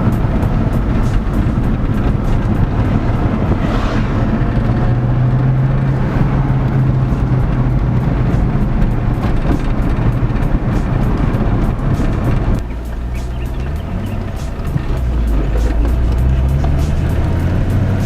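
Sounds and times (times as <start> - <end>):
car engine drone from inside cabin: 0.0 - 18.0
rush of noise: 0.0 - 18.0.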